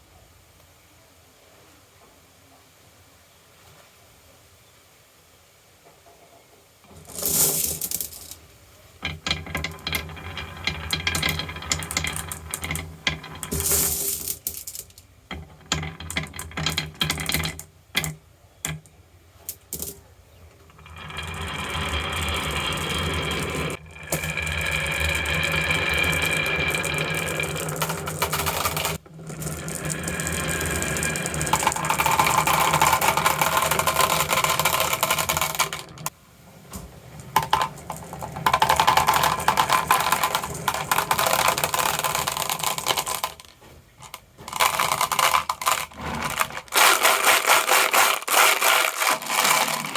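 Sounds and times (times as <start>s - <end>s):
marbles rolling with ringing tones: 6.9s - 8.4s, 9.0s - 36.2s, 37.2s - 49.9s
marbles clattering down a track: 7.0s - 8.4s, 9.0s - 20.0s, 20.6s - 36.2s, 37.2s - 49.9s.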